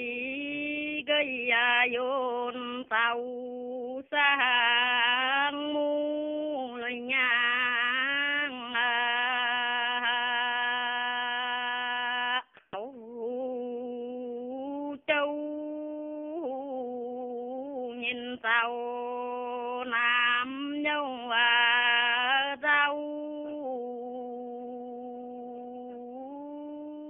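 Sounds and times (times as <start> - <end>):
elderly woman singing solo: 0.0 - 27.0.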